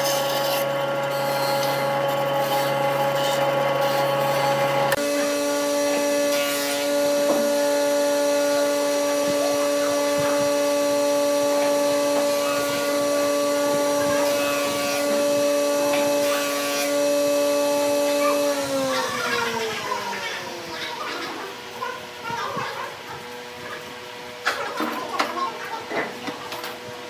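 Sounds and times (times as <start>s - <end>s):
electric motor running: 0.0s - 22.4s.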